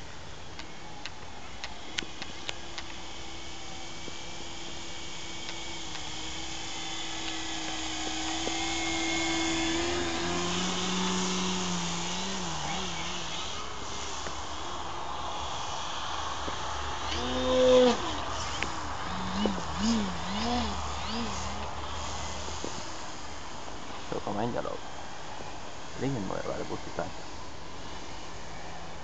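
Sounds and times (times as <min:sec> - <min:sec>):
model airplane motor droning: 0:00.0 - 0:29.0.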